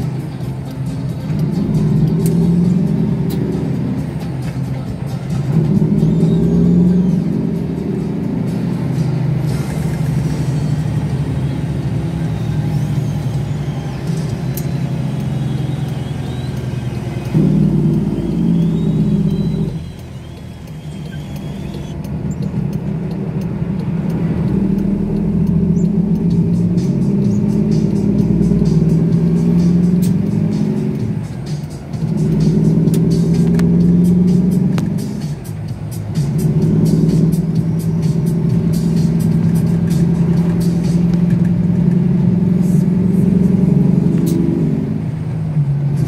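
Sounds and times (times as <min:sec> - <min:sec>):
diesel truck engine under load: 0:00.0 - 0:46.0.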